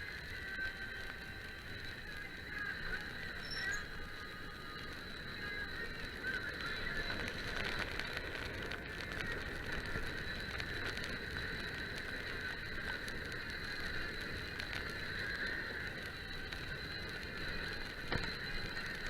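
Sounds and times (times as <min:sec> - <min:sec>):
bike freewheel ticking: 0:00.0 - 0:19.0.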